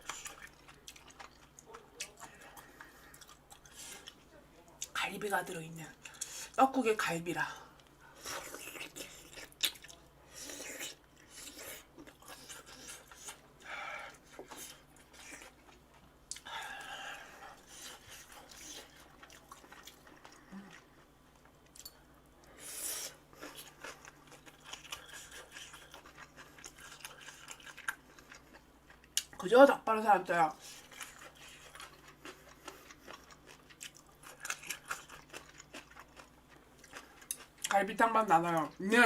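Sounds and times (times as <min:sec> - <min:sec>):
person chewing food: 0:00.0 - 0:04.2, 0:07.7 - 0:29.4, 0:30.6 - 0:37.7.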